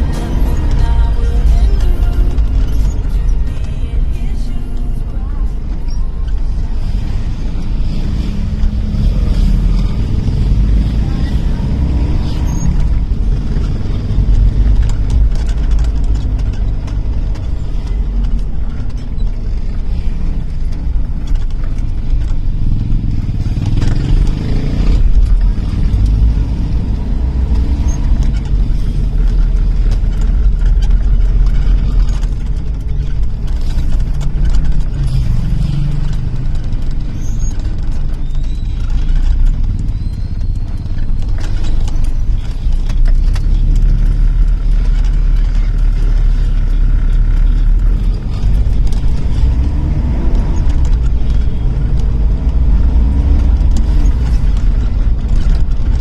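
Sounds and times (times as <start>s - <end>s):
petrol engine droning: 0.0s - 56.0s.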